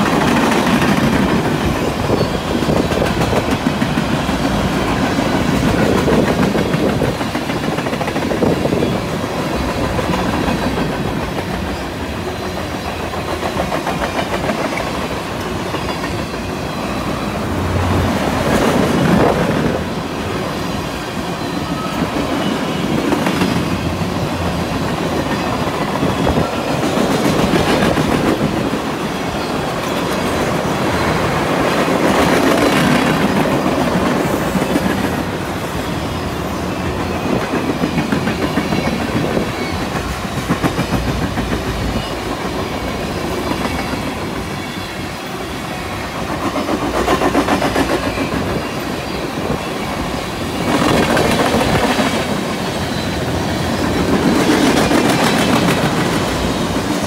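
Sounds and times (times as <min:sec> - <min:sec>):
train wheels clicking on rails: 0:00.0 - 0:57.0.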